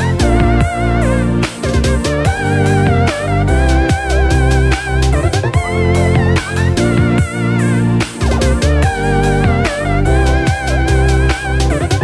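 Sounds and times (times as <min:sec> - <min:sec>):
music with guitar and beat: 0:00.0 - 0:12.0.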